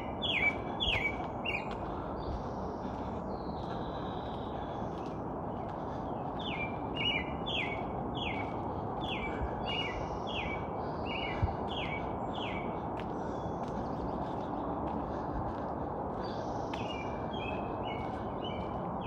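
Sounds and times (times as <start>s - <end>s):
steady background rush: 0.0s - 19.0s.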